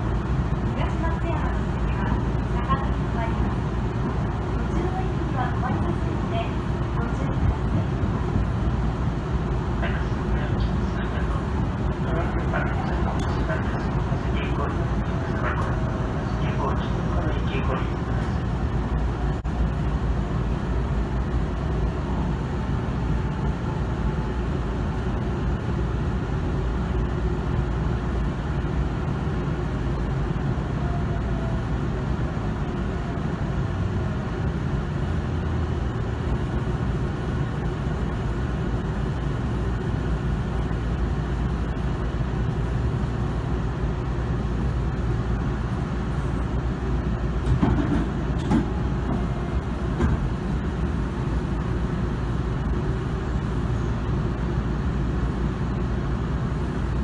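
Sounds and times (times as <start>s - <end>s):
train car hum and rumble: 0.0s - 57.0s.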